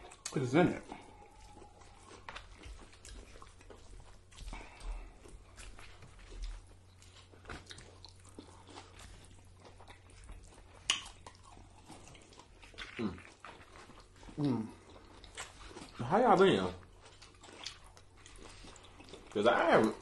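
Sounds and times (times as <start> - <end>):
chewing and mouth smacking: 0.0 - 20.0.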